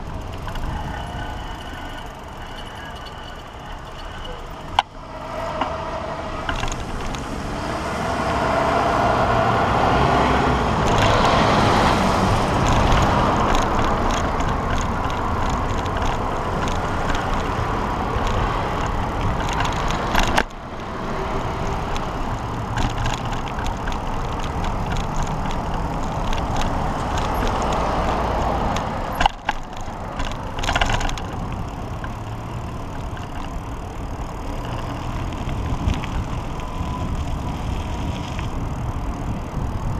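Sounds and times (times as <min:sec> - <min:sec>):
traffic passing: 0:00.0 - 0:39.9
wind and road noise: 0:00.0 - 0:39.9.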